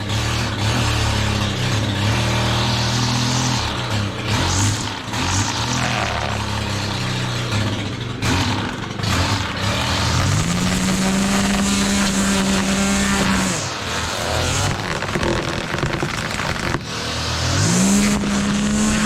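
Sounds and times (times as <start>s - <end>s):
small gasoline engine running unevenly: 0.0s - 19.0s.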